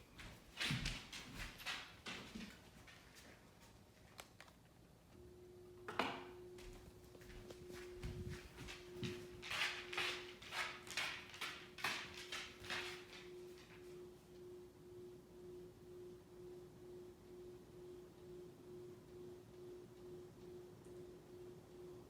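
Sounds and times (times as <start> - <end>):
ceiling fan motor hum: 0.0 - 22.0.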